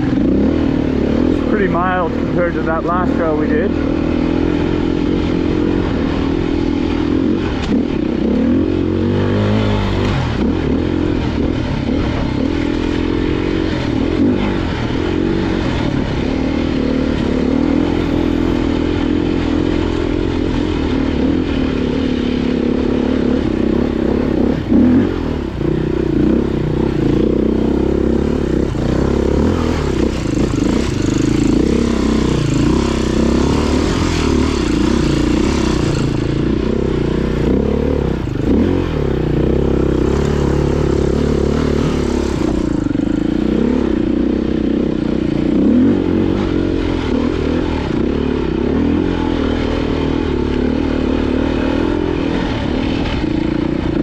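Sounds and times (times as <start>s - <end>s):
dirt bike engine: 0.0s - 54.0s.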